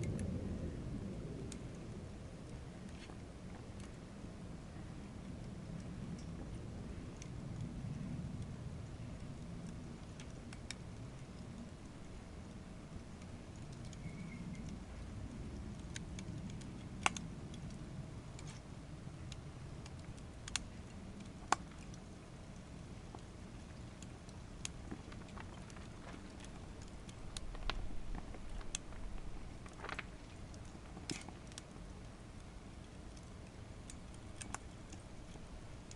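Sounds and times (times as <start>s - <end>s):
burning wood crackling and popping: 0.0s - 35.9s.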